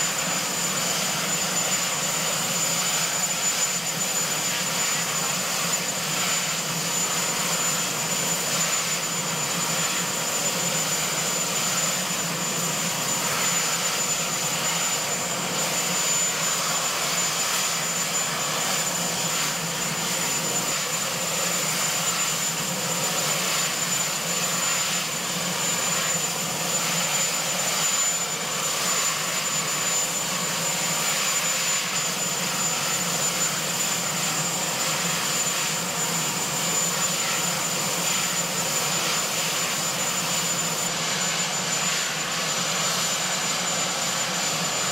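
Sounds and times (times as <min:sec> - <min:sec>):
helicopter turbines running: 0:00.0 - 0:44.9
high-pitched turbine whine: 0:00.0 - 0:44.9.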